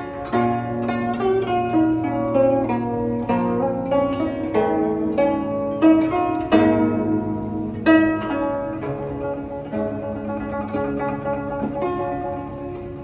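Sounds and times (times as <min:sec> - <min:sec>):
guzheng plucked melody: 0:00.0 - 0:13.0.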